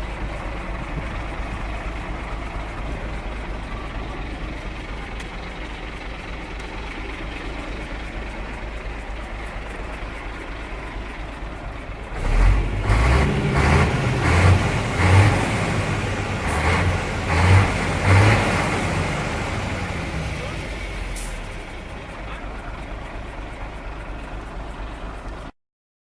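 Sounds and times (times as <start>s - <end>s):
truck diesel engine idling and revving: 0.0s - 25.5s.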